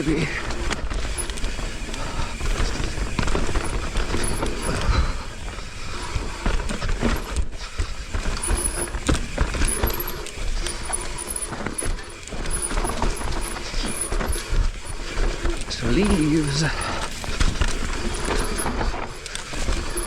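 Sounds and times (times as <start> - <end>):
bike rattling over bumps: 0.0 - 20.0
tyres rolling on dirt: 0.0 - 20.0.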